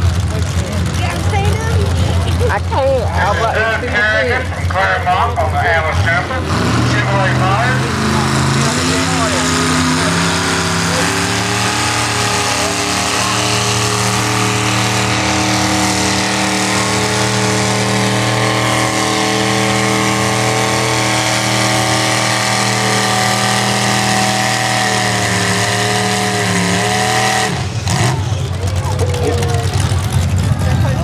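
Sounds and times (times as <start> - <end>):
tractor engine running at high revs: 0.0 - 31.0.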